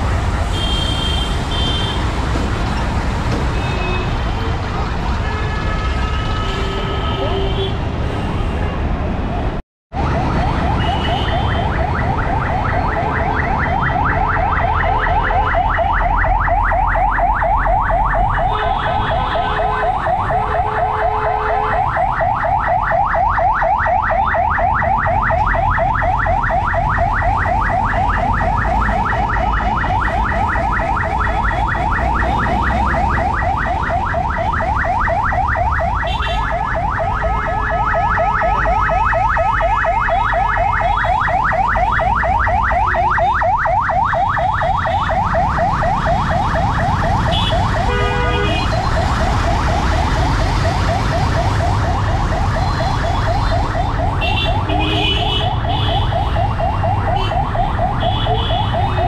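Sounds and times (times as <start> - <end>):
low traffic rumble: 0.0 - 59.0.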